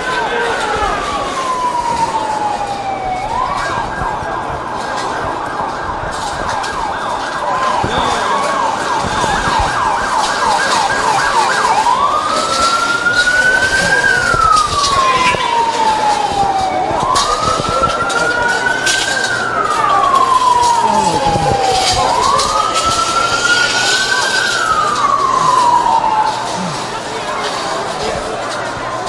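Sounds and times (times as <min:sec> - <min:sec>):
emergency vehicle siren: 0:00.0 - 0:29.0.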